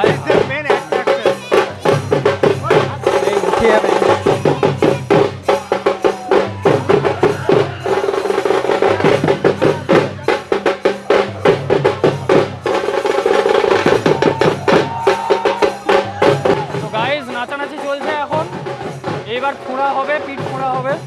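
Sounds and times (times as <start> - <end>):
crowd noise: 0.0 - 21.0
drums beaten rapidly: 0.0 - 21.0.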